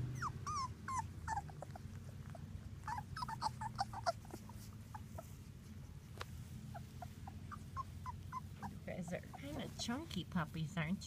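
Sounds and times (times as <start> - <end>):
puppies squeaking and whimpering: 0.0 - 10.0.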